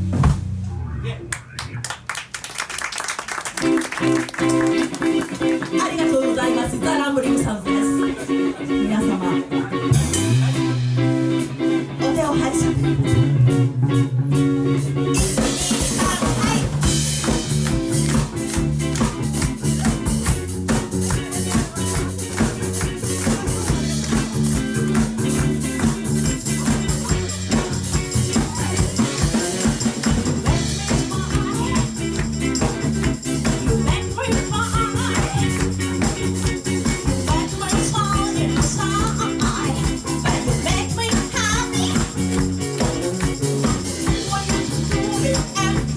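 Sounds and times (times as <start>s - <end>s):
drum kit: 0.0s - 1.0s, 3.5s - 8.4s, 9.0s - 45.9s
live rock band: 0.0s - 1.2s, 1.8s - 45.9s
electric guitar: 3.3s - 45.9s.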